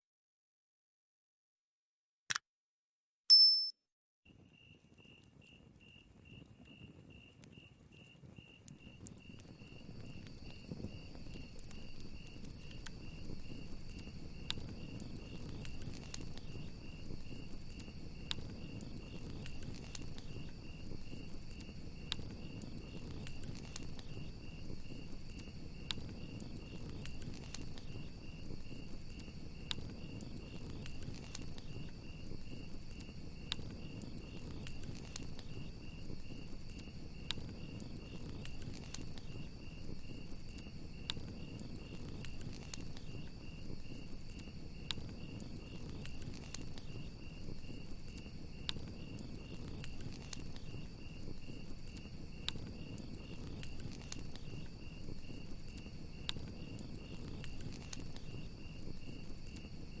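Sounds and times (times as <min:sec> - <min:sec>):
crickets chirping: 0:04.5 - 1:00.0
campfire crackling and popping: 0:05.2 - 1:00.0.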